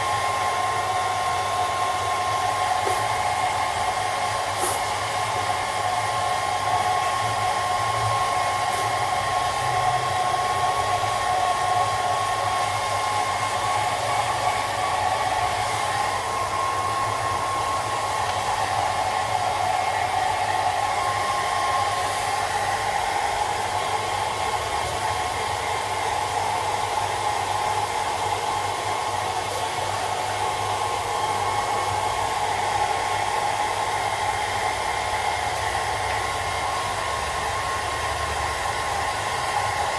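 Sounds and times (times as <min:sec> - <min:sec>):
hair dryer whining: 0:00.0 - 0:39.9.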